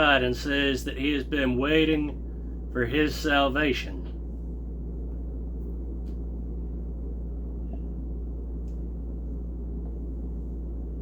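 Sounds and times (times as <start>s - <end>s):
low background hum and rumble: 0.0s - 11.0s.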